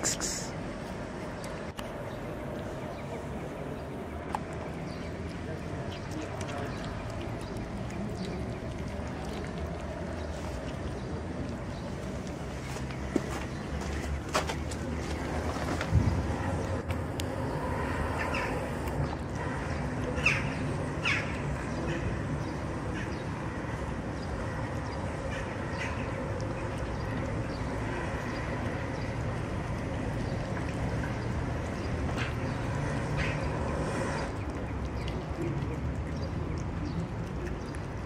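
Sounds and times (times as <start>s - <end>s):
outdoor rumble: 0.7s - 38.0s.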